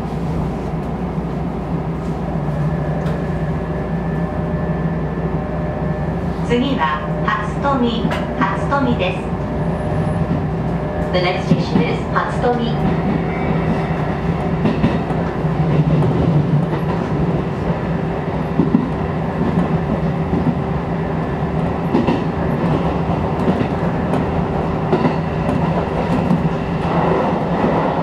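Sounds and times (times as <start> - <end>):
train motors humming: 0.0 - 28.0
train rolling noise: 0.0 - 28.0.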